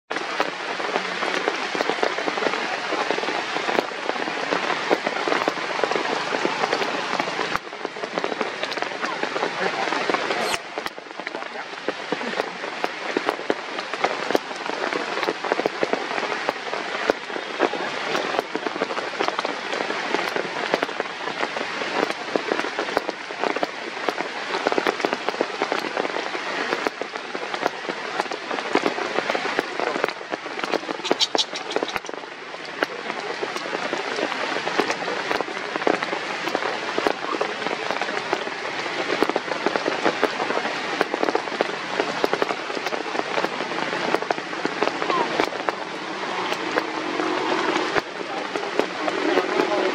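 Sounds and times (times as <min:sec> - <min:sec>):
rain on leaves and wet ground: 0:00.1 - 0:49.9.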